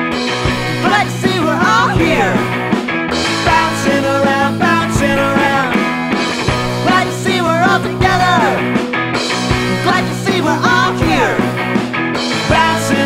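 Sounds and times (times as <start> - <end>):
drums: 0.0 - 13.0
rock band playing: 0.0 - 13.0.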